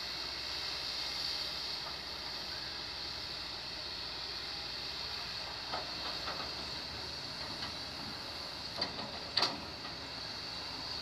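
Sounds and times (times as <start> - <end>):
excavator diesel engine running: 0.0 - 11.0
high hiss: 0.0 - 11.0.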